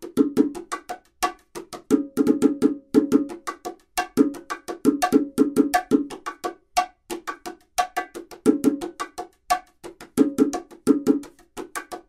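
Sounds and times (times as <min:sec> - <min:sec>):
bongos played by hand: 0:00.0 - 0:12.0.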